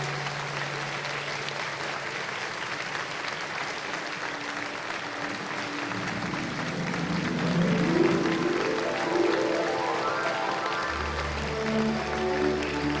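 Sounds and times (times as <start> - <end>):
audience applauding: 0.0 - 13.0
faint music: 0.0 - 13.0.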